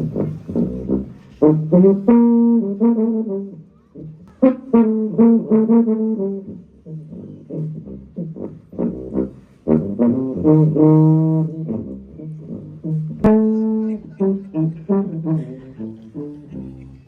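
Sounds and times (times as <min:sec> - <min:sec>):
low pulsing bass: 0:00.0 - 0:02.5, 0:05.0 - 0:16.8
trombone-like brass riff: 0:00.0 - 0:17.0.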